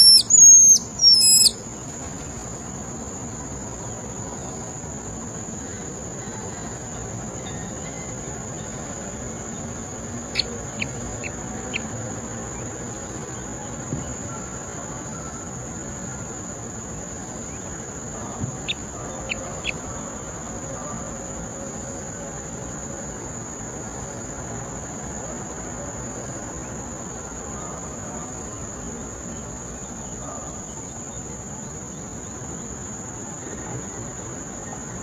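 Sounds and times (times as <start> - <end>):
insects chirring: 0.0 - 35.0
woodland background hiss: 0.0 - 35.0.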